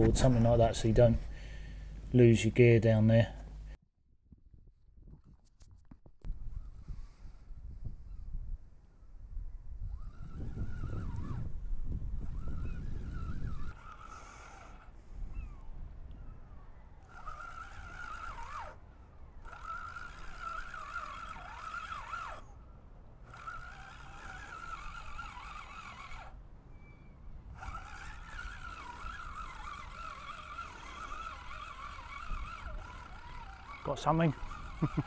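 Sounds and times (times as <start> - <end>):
fishing line whining on reel: 6.2 - 35.0.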